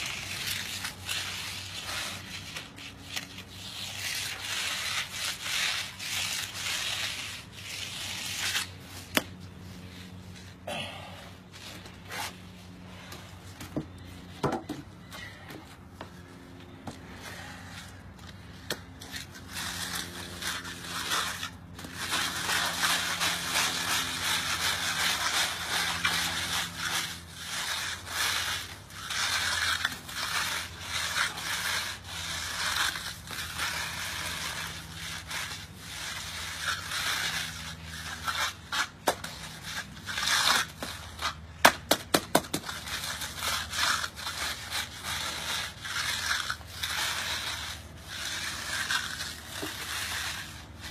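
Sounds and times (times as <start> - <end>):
hand float scraping concrete: 0.0 - 50.9.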